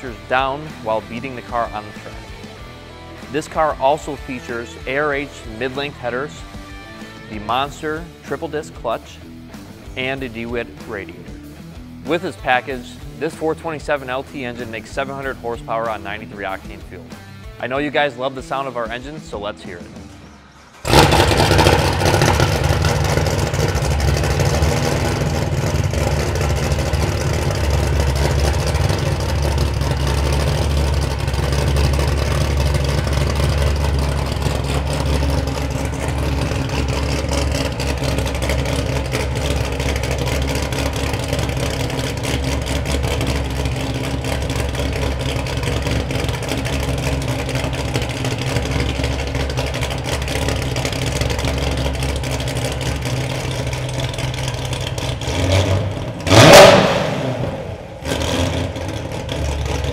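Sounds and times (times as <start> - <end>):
car engine idling: 0.0 - 17.6, 20.0 - 59.9.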